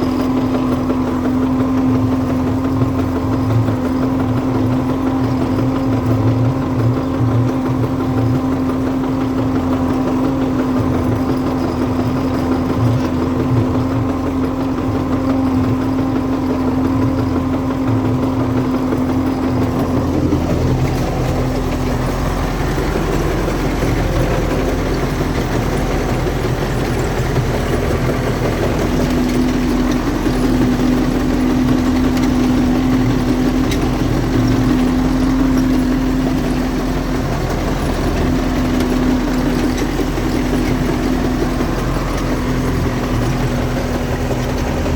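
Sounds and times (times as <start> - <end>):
driveshaft knocking: 0.0 - 44.9
tractor diesel engine running: 0.0 - 44.9.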